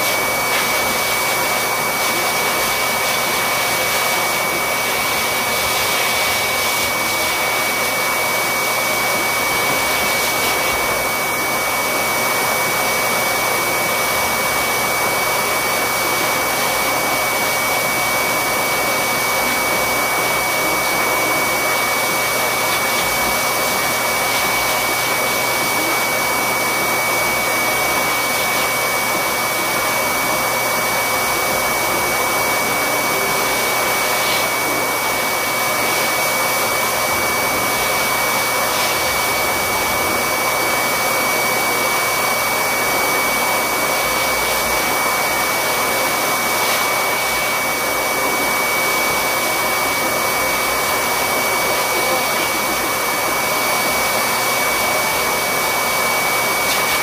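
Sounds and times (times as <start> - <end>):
electric pet clippers whirring: 0.0 - 57.0.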